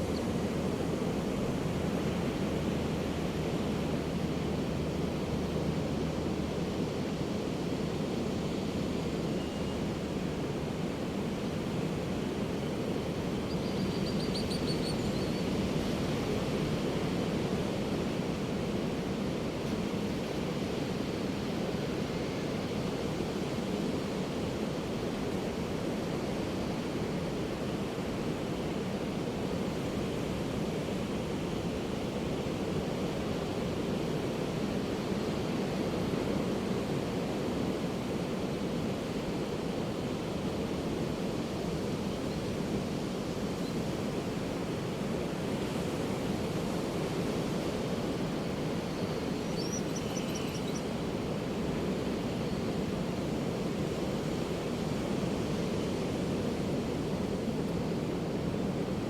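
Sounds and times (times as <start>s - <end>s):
ocean surf breaking on a beach: 0.0s - 13.6s, 14.9s - 59.0s.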